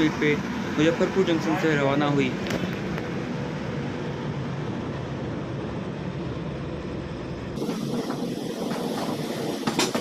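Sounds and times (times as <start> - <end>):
passenger train running: 0.0 - 10.0.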